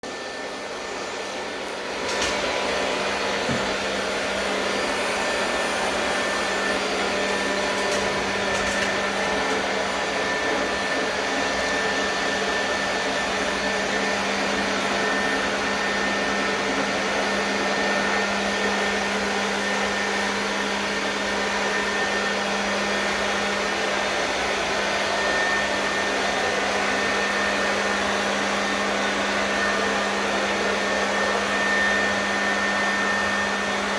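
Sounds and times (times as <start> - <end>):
cleaning machine whirring hum: 0.0 - 33.9.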